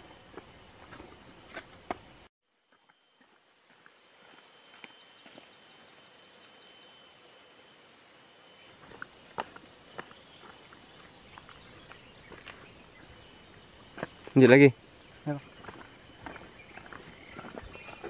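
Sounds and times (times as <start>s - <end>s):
footsteps on dirt path: 0.0s - 6.0s, 8.7s - 18.0s
insects chirring: 0.0s - 18.0s.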